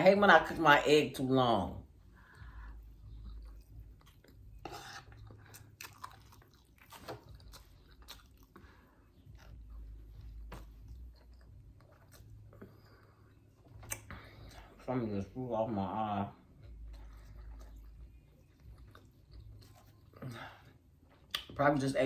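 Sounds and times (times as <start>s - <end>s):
person chewing food: 2.2s - 14.9s, 16.4s - 21.6s.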